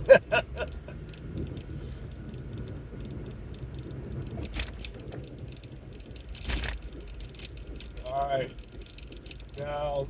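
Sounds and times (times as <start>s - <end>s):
car engine and tyres on road: 0.0s - 10.0s.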